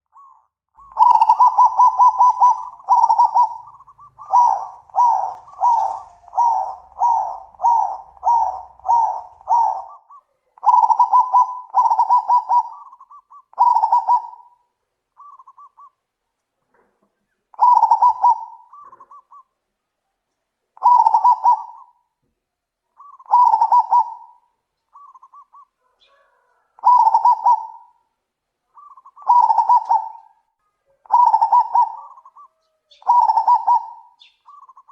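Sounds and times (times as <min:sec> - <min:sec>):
doves cooing: 0:00.2 - 0:14.6, 0:15.2 - 0:16.0, 0:17.5 - 0:19.5, 0:20.8 - 0:22.0, 0:23.0 - 0:28.1, 0:28.7 - 0:34.9.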